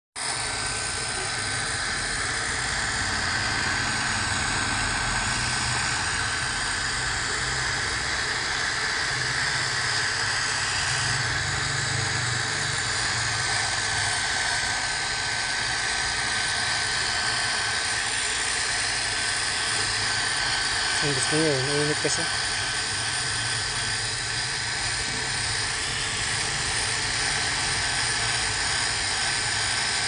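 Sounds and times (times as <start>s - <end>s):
hair dryer blowing air: 0.2s - 30.0s
high fan motor whine: 0.2s - 30.0s.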